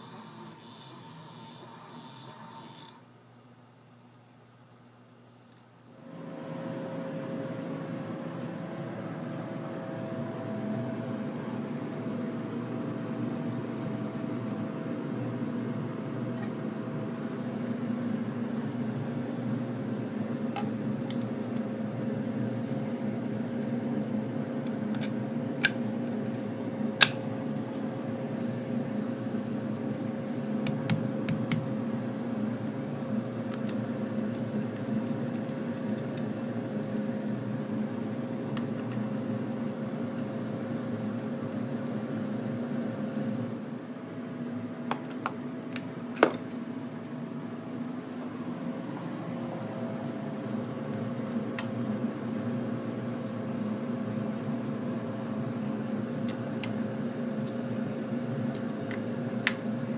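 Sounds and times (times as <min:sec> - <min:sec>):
milling machine hum with whine: 0:00.0 - 0:59.9.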